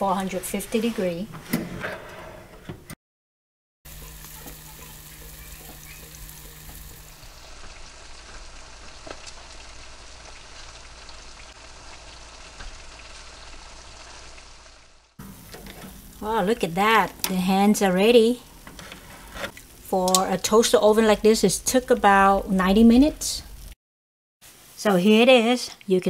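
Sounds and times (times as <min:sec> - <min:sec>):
fat sizzling in a pan: 0:03.9 - 0:23.8, 0:24.4 - 0:25.5.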